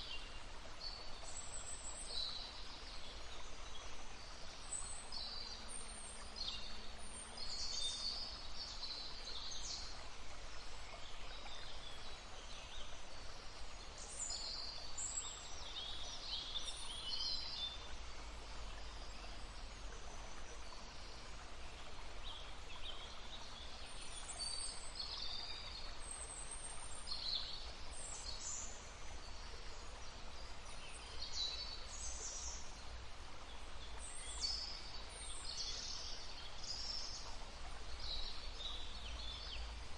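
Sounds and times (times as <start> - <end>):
stream rushing: 6.2 - 39.9.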